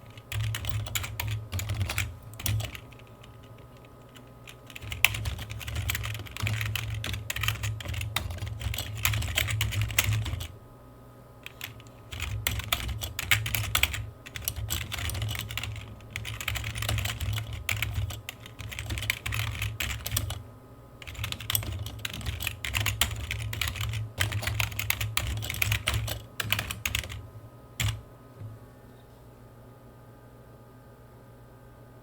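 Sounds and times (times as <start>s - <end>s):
typing on computer keyboard: 0.0s - 10.5s, 11.4s - 20.4s, 21.0s - 27.2s, 27.8s - 28.0s.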